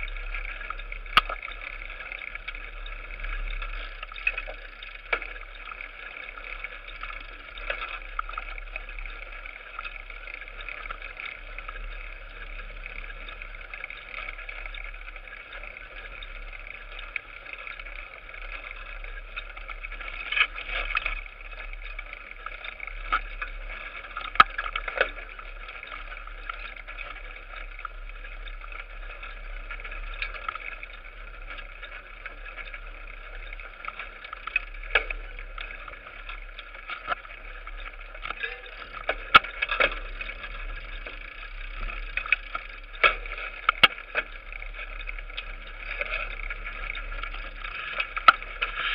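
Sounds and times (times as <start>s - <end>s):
bike tyres and frame rattling: 0.0s - 48.9s.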